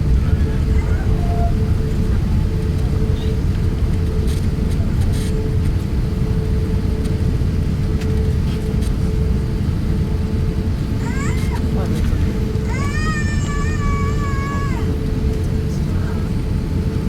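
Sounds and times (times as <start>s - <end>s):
aircraft cabin rumble: 0.0s - 17.0s
steady hum: 0.0s - 17.0s.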